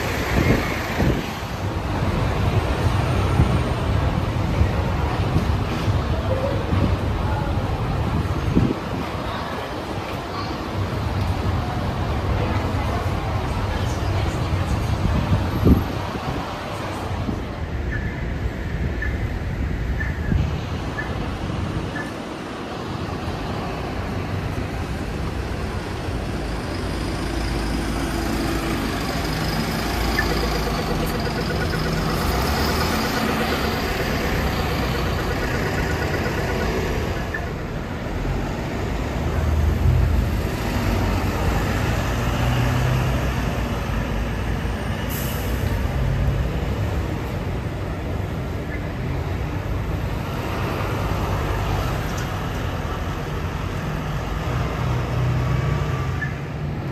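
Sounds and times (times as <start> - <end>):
bus engine rumble: 0.0 - 56.9.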